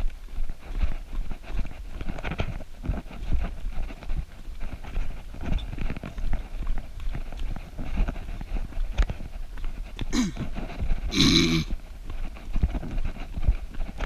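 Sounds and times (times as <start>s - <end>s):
running footsteps on dirt trail: 0.0s - 14.0s.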